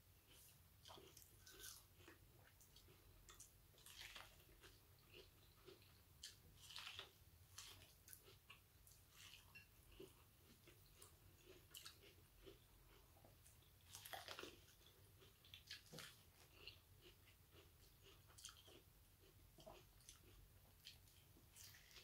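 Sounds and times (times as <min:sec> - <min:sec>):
chewing corn on the cob: 0:00.2 - 0:22.0.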